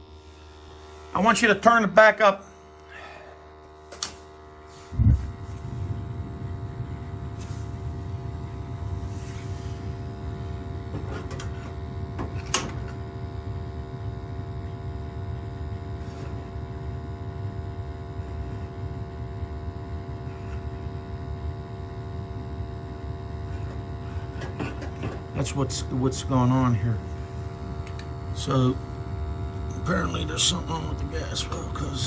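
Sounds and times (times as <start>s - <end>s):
boiler burner rumbling: 0.0s - 32.0s.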